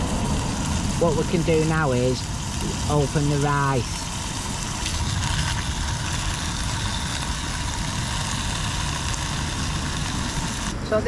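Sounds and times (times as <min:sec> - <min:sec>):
chicken sizzling in a pan: 0:00.0 - 0:10.8
camping stove burning: 0:00.0 - 0:11.0.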